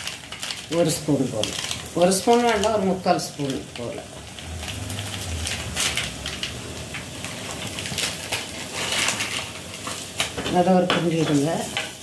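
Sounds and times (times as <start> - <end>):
paste crackling in oil: 0.0 - 12.0.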